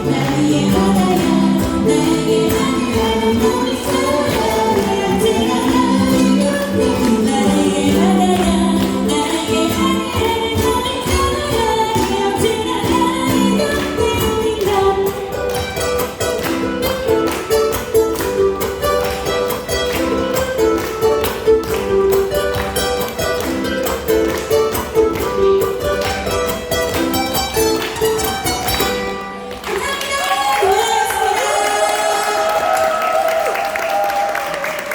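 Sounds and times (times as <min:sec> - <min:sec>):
ukulele ensemble strumming: 0:00.0 - 0:34.9.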